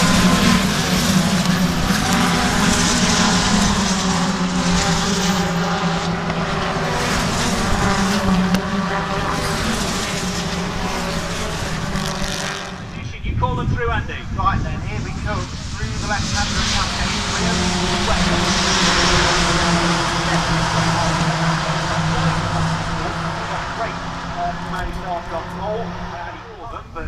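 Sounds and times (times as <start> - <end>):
race cars at full throttle: 0.0 - 27.0.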